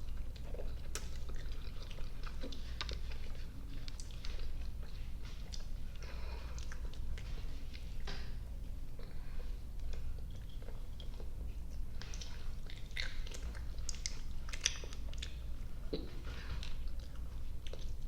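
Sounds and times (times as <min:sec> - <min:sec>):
chewing sticky candy: 0:00.0 - 0:08.1, 0:08.8 - 0:18.0.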